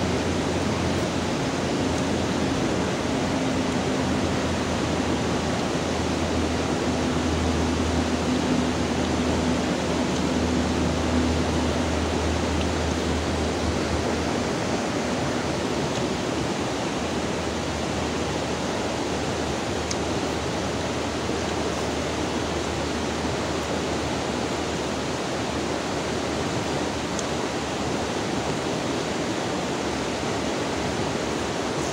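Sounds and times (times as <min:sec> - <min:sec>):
river water babbling: 0:00.0 - 0:31.9.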